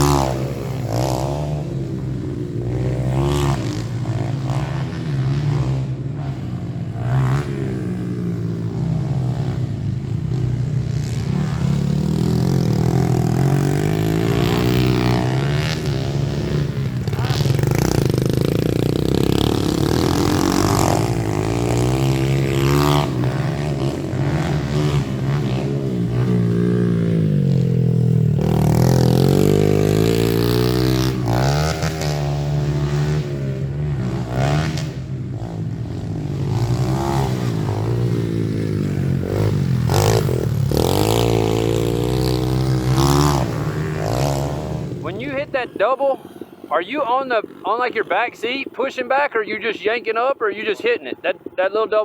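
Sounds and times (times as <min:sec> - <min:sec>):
pit bike engine revving: 0:00.0 - 0:47.8.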